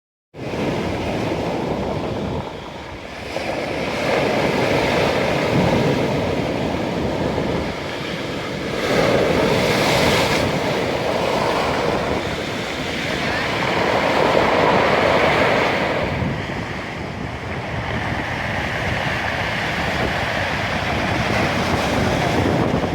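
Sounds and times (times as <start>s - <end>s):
waves breaking on shore: 0.4s - 22.9s.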